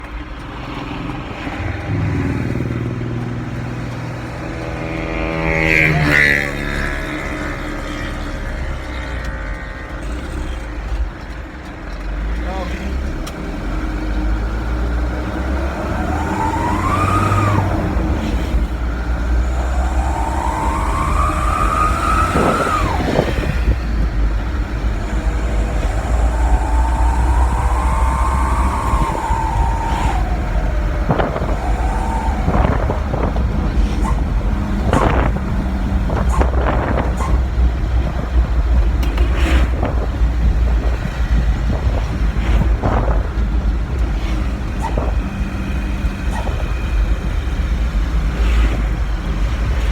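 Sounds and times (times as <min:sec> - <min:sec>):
short sharp exhaust cracks: 0:00.0 - 0:49.9
truck engine howling exhaust: 0:00.0 - 0:49.9.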